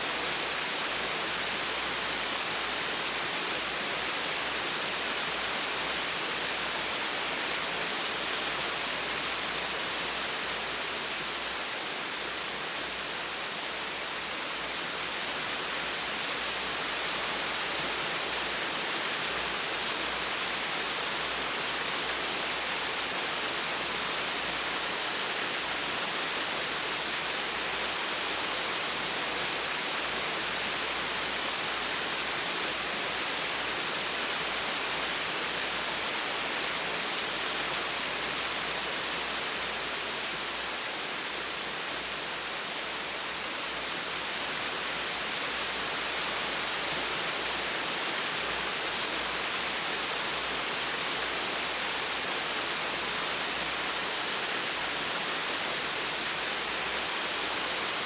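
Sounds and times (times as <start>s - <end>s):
gentle waterfall hiss: 0.0s - 58.0s.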